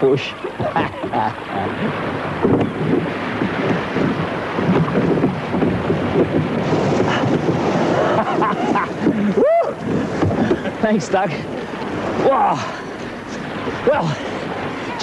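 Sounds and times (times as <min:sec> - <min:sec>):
water rushing past boat: 0:00.0 - 0:15.0
wind buffeting microphone: 0:00.0 - 0:15.0.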